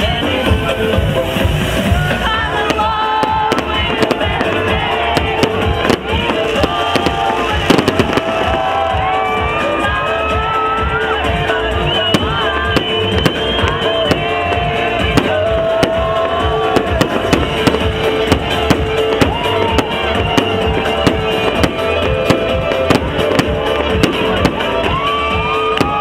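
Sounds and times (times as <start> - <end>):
fireworks bangs and crackles: 0.0 - 26.0
music with gliding tones: 0.2 - 26.0.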